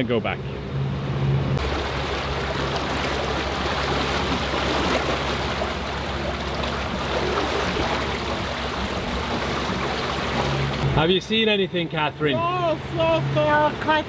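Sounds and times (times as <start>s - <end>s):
boat engine droning: 0.0s - 14.0s
water rushing along a hull: 0.0s - 14.0s.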